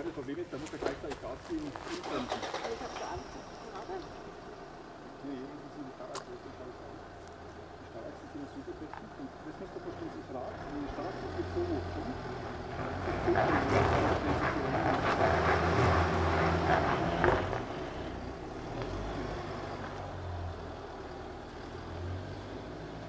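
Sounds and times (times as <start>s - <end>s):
suv engine running low: 0.0s - 23.0s.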